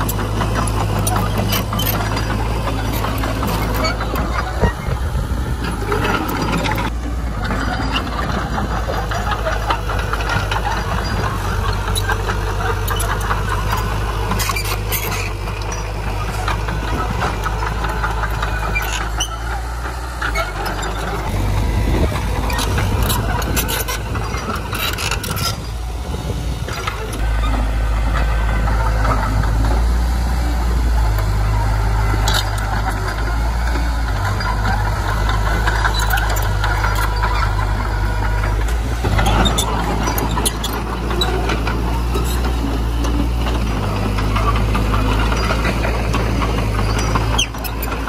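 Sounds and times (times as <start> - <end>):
heavy diesel engines droning: 0.0 - 48.0
machinery clanks: 0.0 - 48.0.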